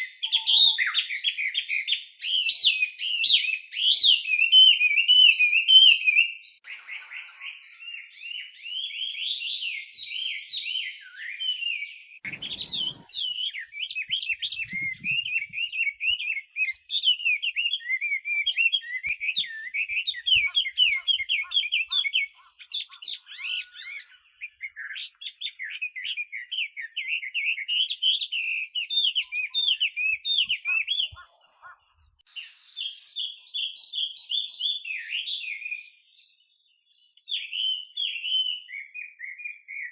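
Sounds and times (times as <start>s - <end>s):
bird singing whistled phrases: 0.0s - 31.2s, 32.2s - 39.9s.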